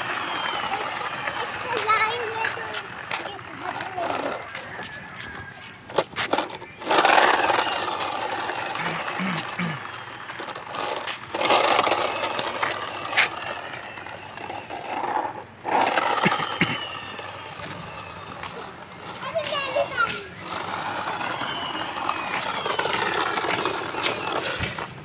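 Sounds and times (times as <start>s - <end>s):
toy truck rolling on concrete: 0.0s - 25.0s.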